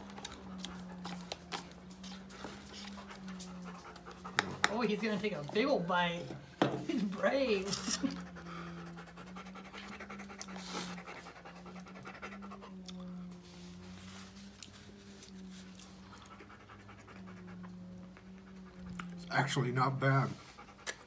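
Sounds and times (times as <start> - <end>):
low hum: 0.0 - 21.0
rapid rhythmic panting: 0.0 - 21.0.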